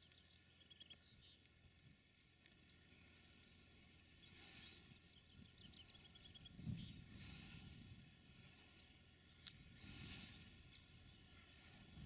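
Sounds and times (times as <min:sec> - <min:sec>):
low steady rumble: 0:00.0 - 0:12.0
small birds chirping: 0:00.0 - 0:12.0.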